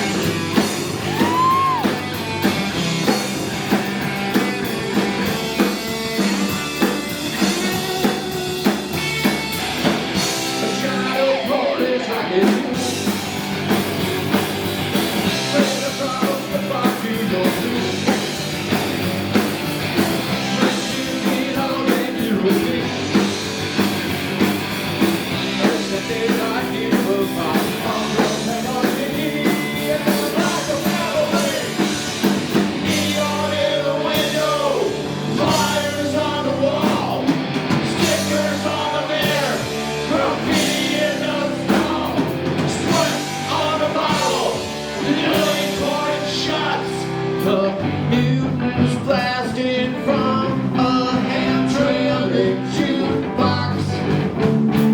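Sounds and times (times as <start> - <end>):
drum kit beat: 0.0 - 49.3, 50.1 - 54.9
bending lead guitar lines: 0.0 - 54.9
live rock band playing: 0.0 - 54.9.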